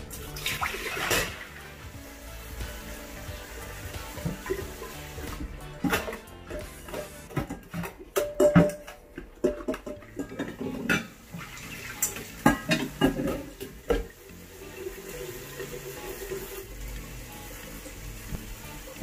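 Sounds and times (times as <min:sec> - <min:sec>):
soapy water pouring: 0:00.0 - 0:08.2, 0:09.5 - 0:19.0.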